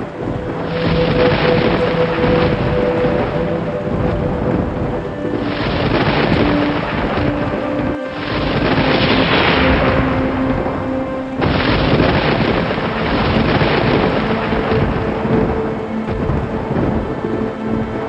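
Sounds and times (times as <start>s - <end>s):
heavy rain: 0.0s - 18.0s
rolling thunder rumble: 0.0s - 18.0s
soft relaxing music: 0.0s - 18.0s.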